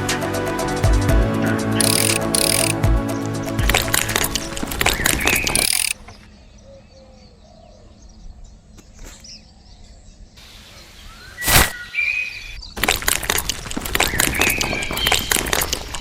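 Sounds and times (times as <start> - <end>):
faint birds chirping: 1.8 - 12.8, 13.4 - 16.0.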